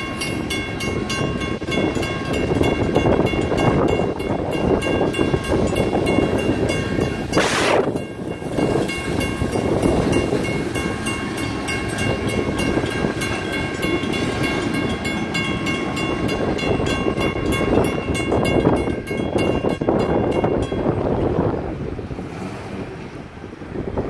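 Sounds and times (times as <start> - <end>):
crossing bells ringing: 0.0 - 21.6
freight cars rumbling past: 0.0 - 24.0.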